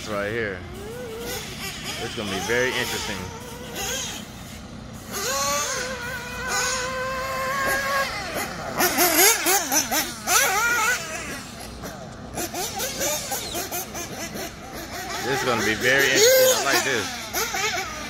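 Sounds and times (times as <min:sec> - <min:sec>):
model car engine screaming: 0:00.6 - 0:18.0.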